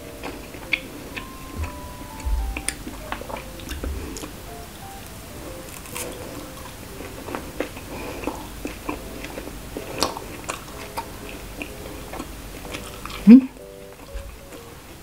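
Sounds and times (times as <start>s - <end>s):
chewing grilled meat: 0.0s - 4.4s, 5.5s - 14.7s.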